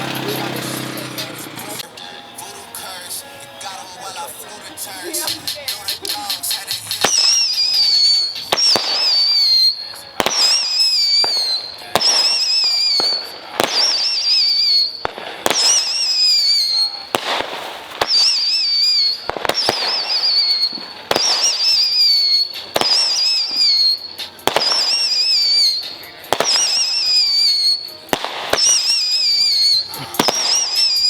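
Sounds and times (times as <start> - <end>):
whistling fireworks: 0.0 - 31.0.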